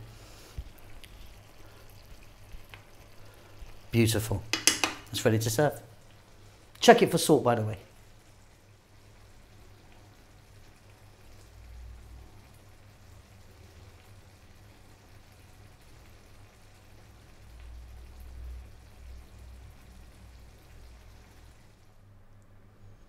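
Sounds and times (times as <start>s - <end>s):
stew bubbling and crackling: 0.0s - 21.9s.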